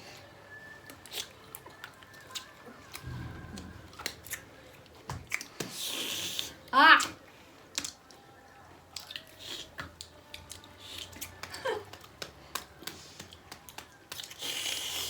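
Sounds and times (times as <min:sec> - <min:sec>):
people chewing lemon: 0:00.0 - 0:15.0.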